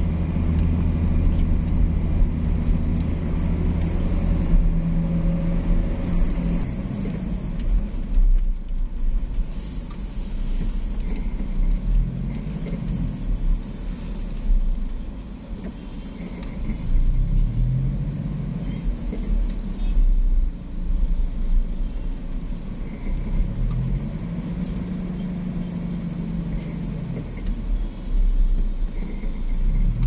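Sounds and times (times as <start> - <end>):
car engine rumble inside cabin: 0.0 - 30.0.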